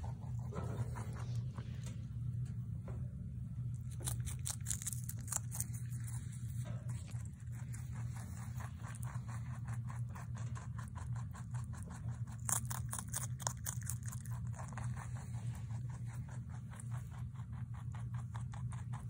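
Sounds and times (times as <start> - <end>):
rabbit chewing lettuce: 0.0 - 19.0.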